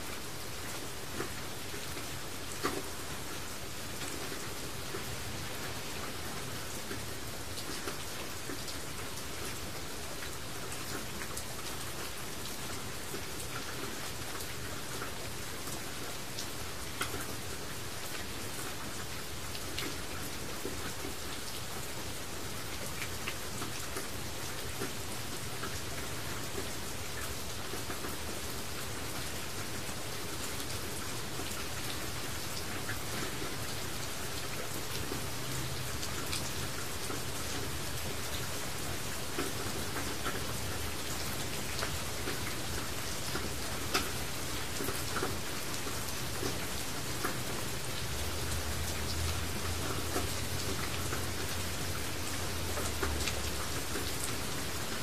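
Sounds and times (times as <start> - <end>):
raindrops ticking on a surface: 0.0 - 55.0
steady rain hiss: 0.0 - 55.0.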